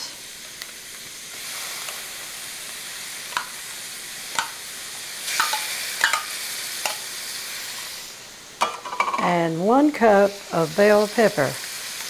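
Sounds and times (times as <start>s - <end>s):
celery sizzling in oil: 0.0s - 12.0s.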